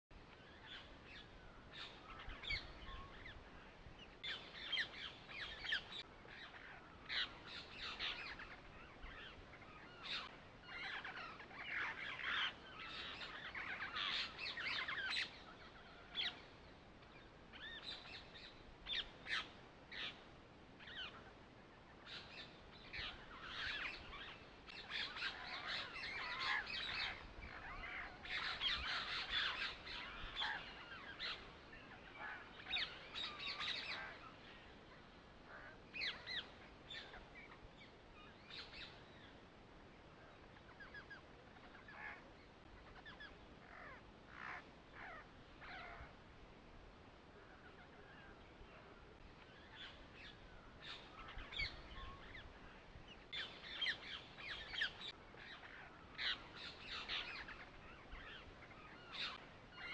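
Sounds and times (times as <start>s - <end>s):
birds chirping: 0.1s - 59.9s.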